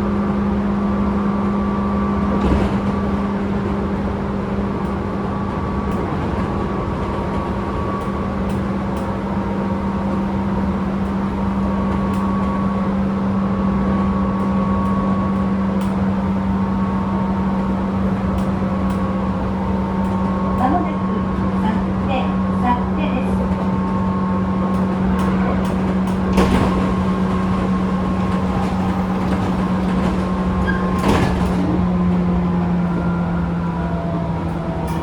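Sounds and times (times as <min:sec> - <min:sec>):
electric train hum: 0:00.0 - 0:35.0.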